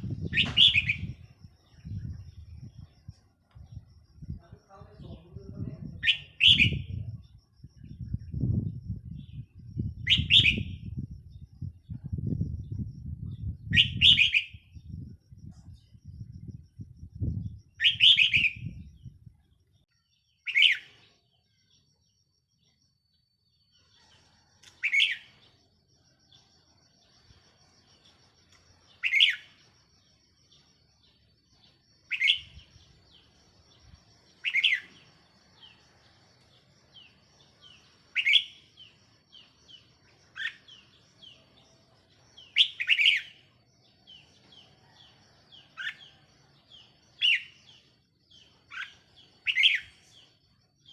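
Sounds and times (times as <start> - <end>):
bird song phrases: 0.0 - 50.9
soft bird chirps: 0.0 - 50.9.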